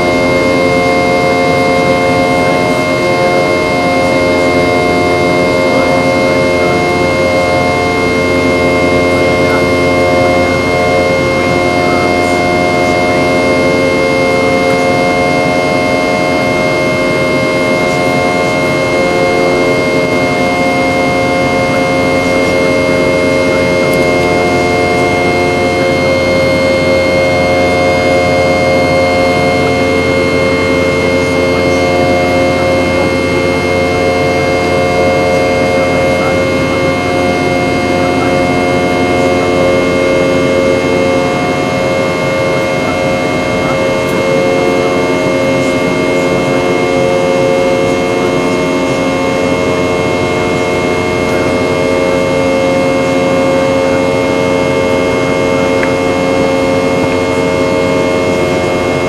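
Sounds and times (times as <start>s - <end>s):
jet engines droning in cabin: 0.0s - 59.0s
steady whining tones: 0.0s - 59.0s.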